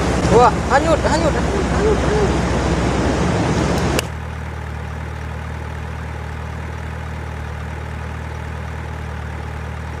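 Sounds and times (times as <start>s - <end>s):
heavy vehicle engine idling: 0.0s - 10.0s.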